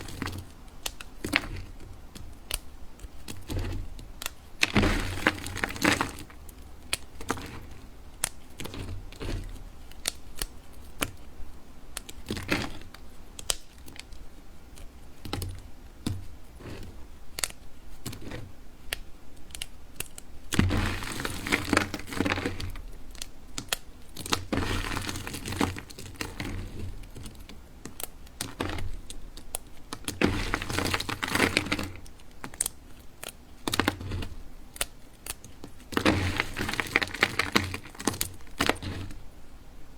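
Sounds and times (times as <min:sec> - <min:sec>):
knife cutting bar soap: 0:00.0 - 0:11.3, 0:11.9 - 0:39.3
soap crunching: 0:00.0 - 0:11.3, 0:11.9 - 0:39.4.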